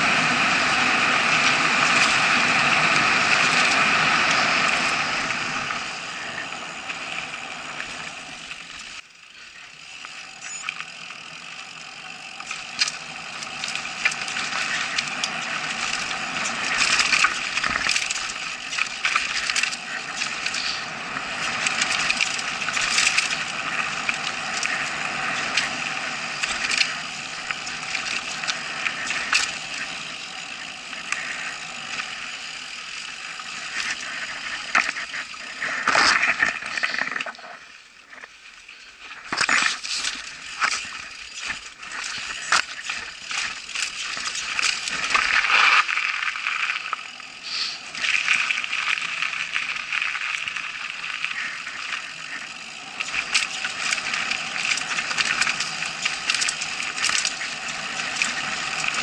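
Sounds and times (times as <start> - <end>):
mountain bike rattling: 0.0 - 59.0
tyres on dirt and stones: 5.8 - 59.0.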